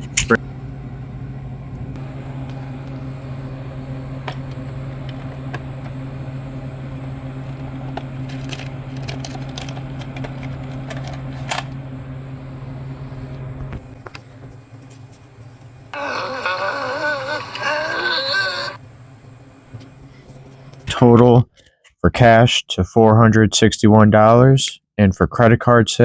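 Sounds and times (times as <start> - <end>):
steady machine hum: 0.0 - 21.4.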